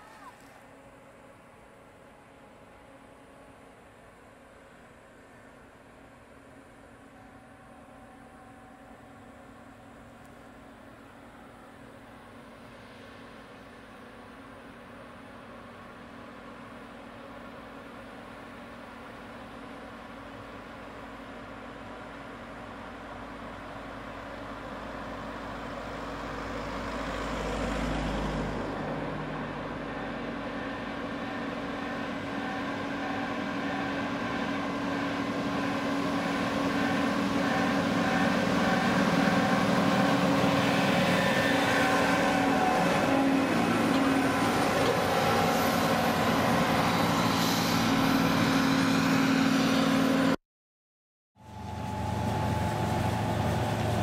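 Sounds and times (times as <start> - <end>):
combine harvester diesel engine: 0.0 - 50.4, 51.4 - 54.0.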